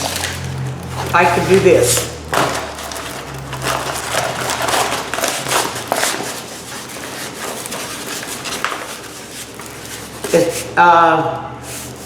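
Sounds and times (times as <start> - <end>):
packaging rustling and crinkling: 0.0 - 10.8.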